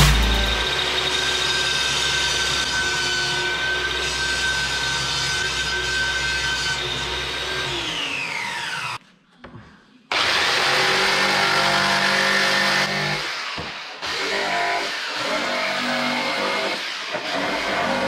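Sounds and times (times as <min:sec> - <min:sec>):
jigsaw cutting plywood: 0:00.0 - 0:09.0, 0:10.1 - 0:18.0
table saw cutting plywood: 0:00.0 - 0:09.0, 0:10.1 - 0:18.0.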